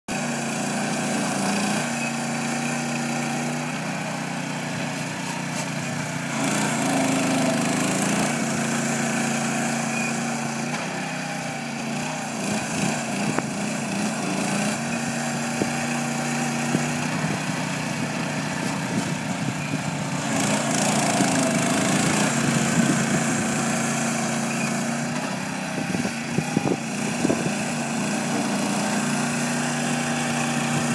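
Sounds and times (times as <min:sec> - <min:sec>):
small engine running: 0:00.1 - 0:30.9.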